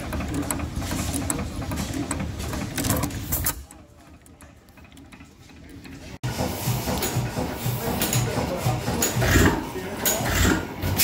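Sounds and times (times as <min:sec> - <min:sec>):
old engine thumping: 0:00.0 - 0:10.3
old engines clattering: 0:00.0 - 0:11.0.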